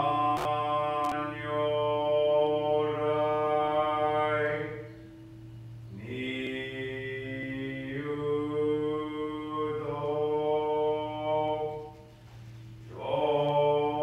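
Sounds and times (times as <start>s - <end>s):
voices chanting long notes: 0.0s - 14.0s.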